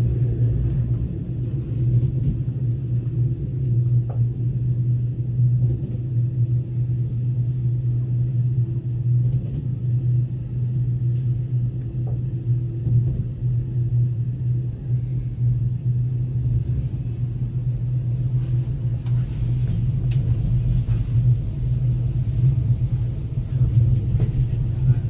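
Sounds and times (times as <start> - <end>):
moving train rumble: 0.0 - 25.0.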